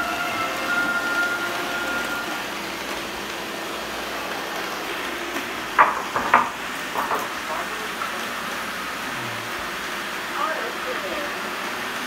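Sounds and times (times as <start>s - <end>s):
robot vacuum cleaners whirring: 0.0s - 12.0s.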